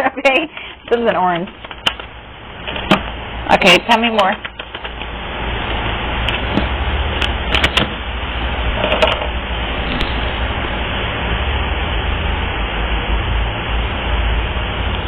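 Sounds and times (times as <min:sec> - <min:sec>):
low rumbling hum with hiss: 0:00.0 - 0:15.0.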